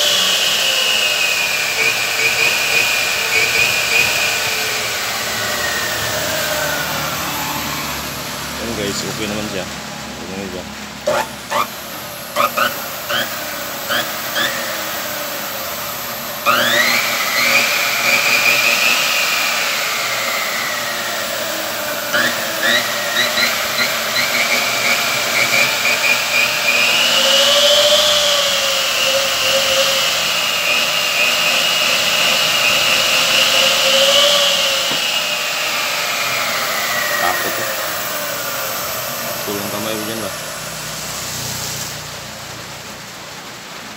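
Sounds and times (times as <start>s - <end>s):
miter saw motor whining: 0.0s - 41.9s.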